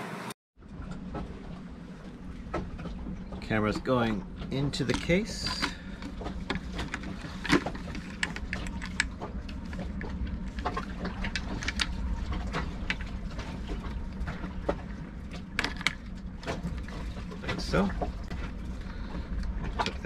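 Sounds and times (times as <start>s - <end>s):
steady low hum: 0.6s - 20.0s.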